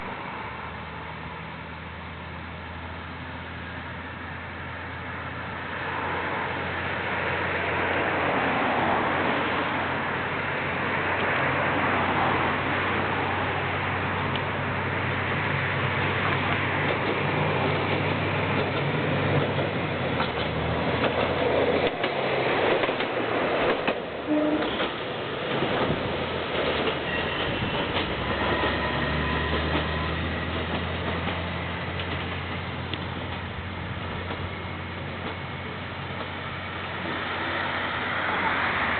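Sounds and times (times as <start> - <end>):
diesel railcar drone: 0.0 - 38.9
train running noise: 0.0 - 38.9.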